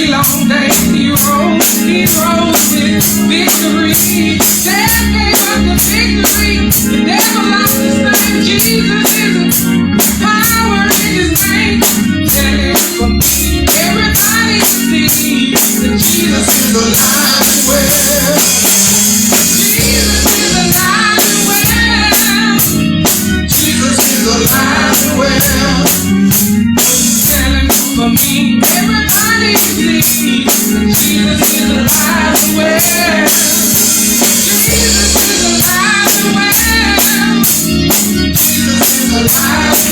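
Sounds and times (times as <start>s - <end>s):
drum kit: 0.0s - 39.9s
guitar: 0.0s - 39.9s
people singing: 0.0s - 39.9s.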